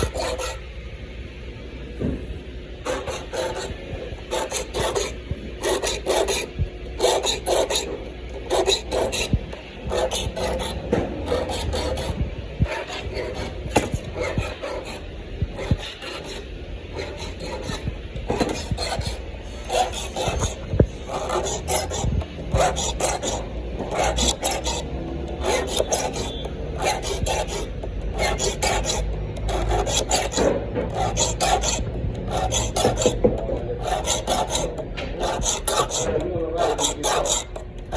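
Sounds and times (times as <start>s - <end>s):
hand saw cutting wood: 4.3s - 37.6s.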